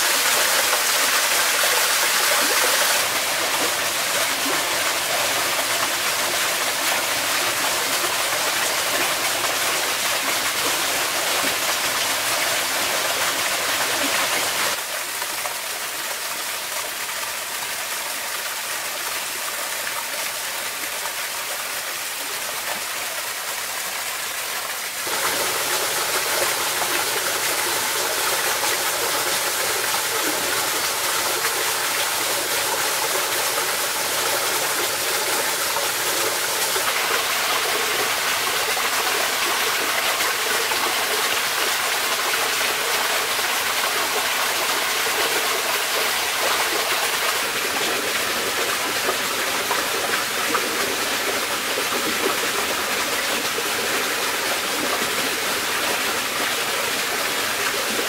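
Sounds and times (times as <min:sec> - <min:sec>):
stream babbling over pebbles: 0:00.0 - 0:58.0.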